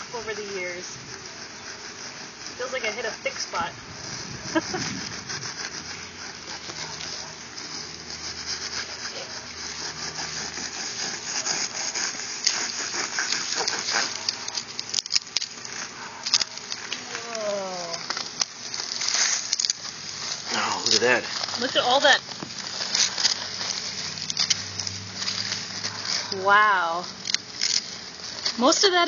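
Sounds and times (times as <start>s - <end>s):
serrated knife sawing paper nest: 0.0s - 29.0s.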